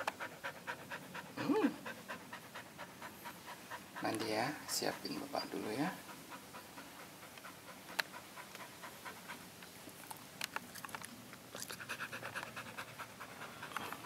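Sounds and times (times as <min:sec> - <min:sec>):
dog panting: 0:00.0 - 0:09.6, 0:11.6 - 0:14.0.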